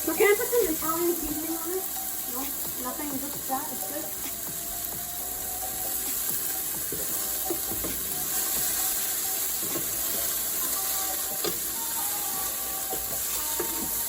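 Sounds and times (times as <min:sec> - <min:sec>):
chicken sizzling in a frying pan: 0:00.0 - 0:14.0.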